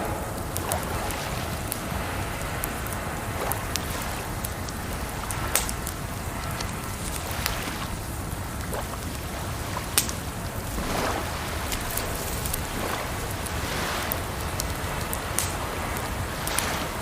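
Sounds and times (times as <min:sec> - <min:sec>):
rushing water: 0:00.0 - 0:17.0
wood fire crackling and popping: 0:00.0 - 0:17.0.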